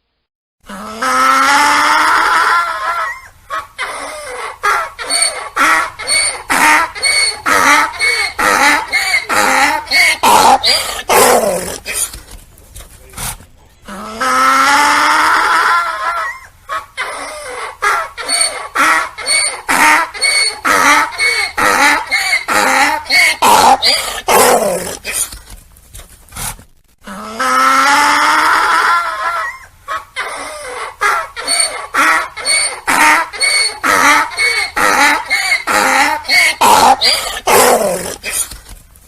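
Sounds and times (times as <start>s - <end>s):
donkey braying: 0.8s - 12.3s, 13.8s - 25.4s, 27.0s - 38.5s.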